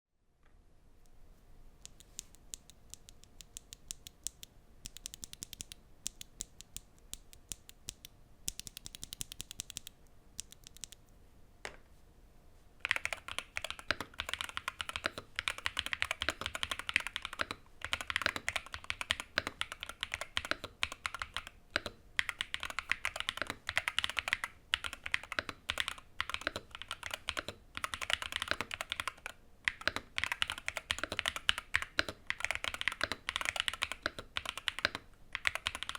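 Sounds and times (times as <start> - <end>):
keyboard typing clicks: 1.8 - 11.0, 12.8 - 35.9.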